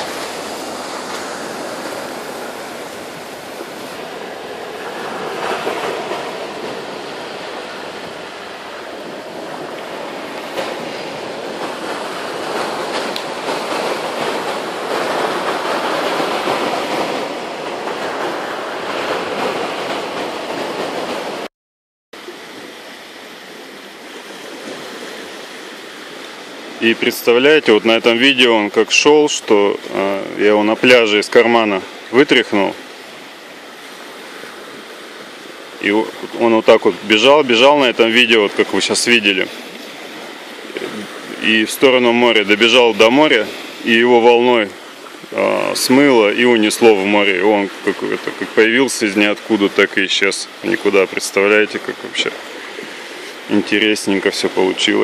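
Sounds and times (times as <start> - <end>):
surf washing on beach: 0.0 - 21.5, 22.2 - 55.0.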